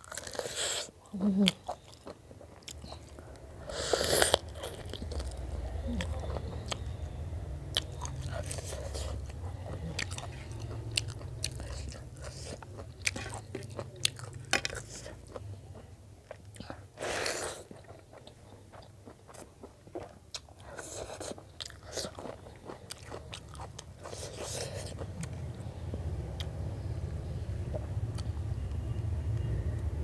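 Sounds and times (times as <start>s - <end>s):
chewing and crunching food: 0.0s - 30.0s
low steady hum: 1.0s - 17.0s, 17.8s - 30.0s.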